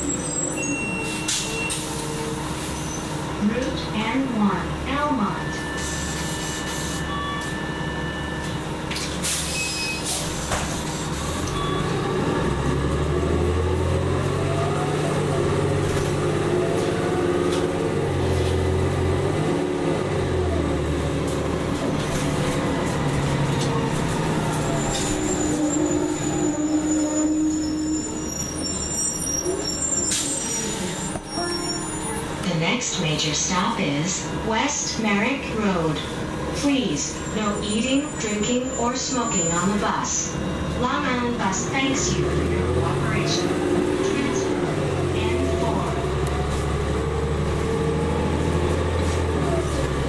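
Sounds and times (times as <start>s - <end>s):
bus engine accelerating: 0.0s - 50.0s.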